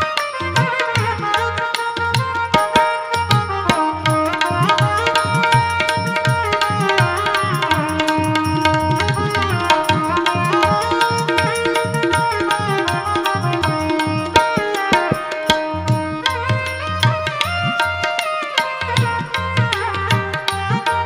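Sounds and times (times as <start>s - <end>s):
harmonium melody: 0.0s - 21.0s.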